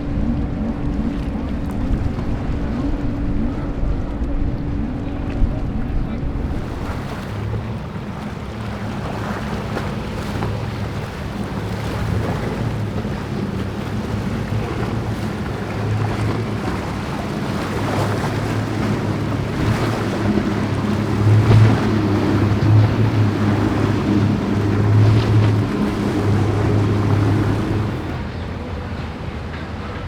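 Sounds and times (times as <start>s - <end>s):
wind buffeting microphone: 0.0s - 29.8s
motorboat engines humming: 0.0s - 30.0s
waves washing: 0.0s - 30.0s.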